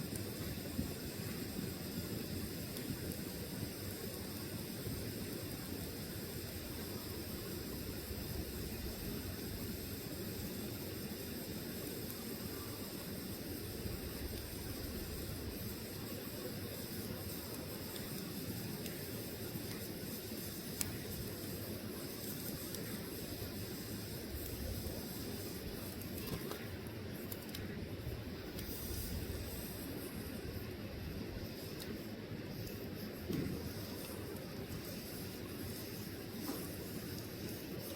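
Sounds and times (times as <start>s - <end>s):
fire crackles and pops: 0.0s - 37.9s
log fire rushing and hissing: 0.0s - 37.9s.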